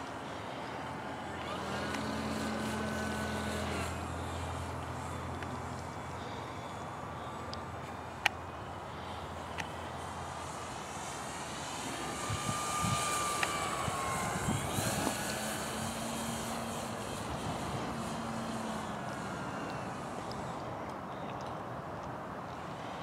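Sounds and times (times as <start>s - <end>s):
model airplane motor passing overhead: 0.0s - 23.0s.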